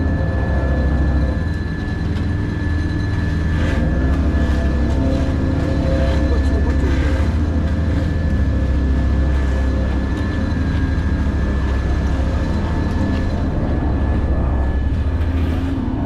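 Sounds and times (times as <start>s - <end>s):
constant high whine: 0.0s - 16.0s
paving machinery diesel rumble: 0.0s - 16.0s.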